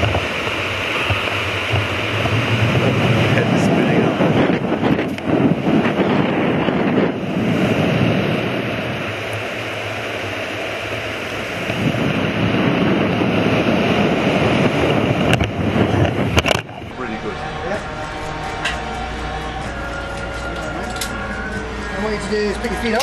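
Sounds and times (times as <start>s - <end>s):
rushing air buffeting microphone: 0.0s - 23.0s.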